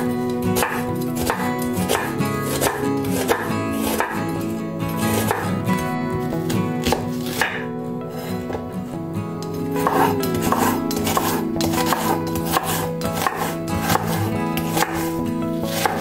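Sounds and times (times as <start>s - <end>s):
knife chopping on wooden board: 0.0s - 4.4s, 5.1s - 5.6s, 6.5s - 8.6s, 9.7s - 16.0s
background music: 0.0s - 16.0s.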